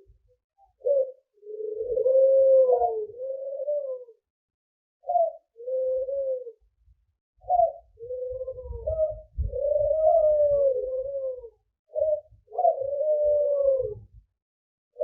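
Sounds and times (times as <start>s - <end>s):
bird cooing: 0.0s - 4.2s, 5.0s - 6.7s, 7.4s - 14.2s.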